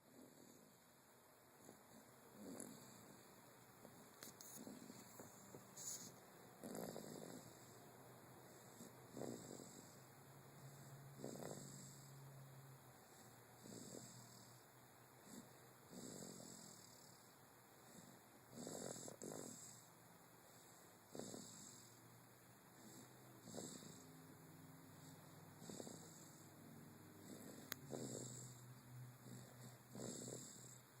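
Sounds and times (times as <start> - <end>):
faint slow snoring: 0.0 - 0.8, 1.6 - 31.0.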